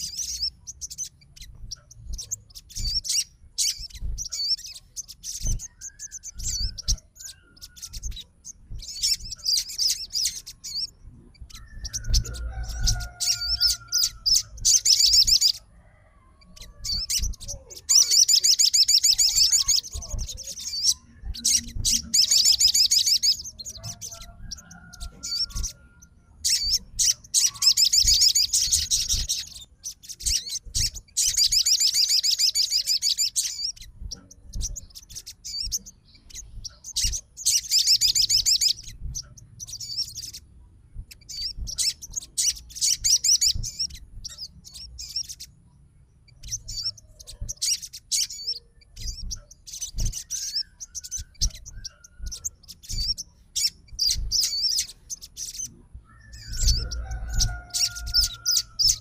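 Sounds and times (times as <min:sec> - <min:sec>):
bird chirps: 0:00.0 - 0:59.0
sunbird high-pitched trilling song: 0:00.0 - 0:59.0.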